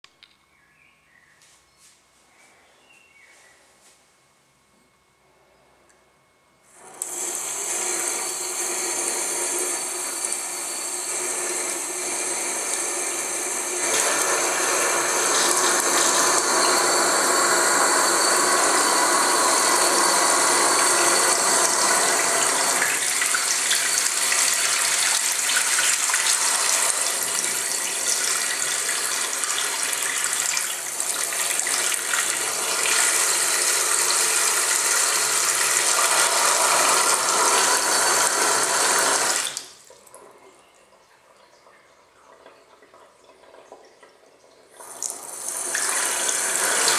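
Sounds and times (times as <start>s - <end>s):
water rushing from tap: 6.8s - 40.2s, 42.3s - 46.9s
tap making loud continuous noise: 6.8s - 46.9s.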